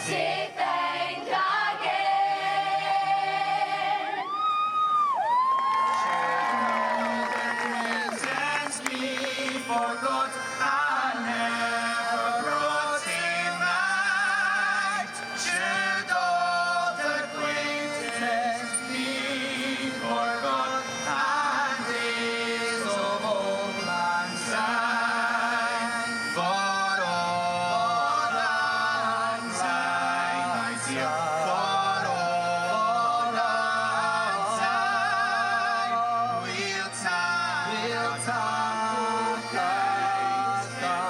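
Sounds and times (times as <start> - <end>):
folk melody with ornamented notes: 7.0 - 41.0.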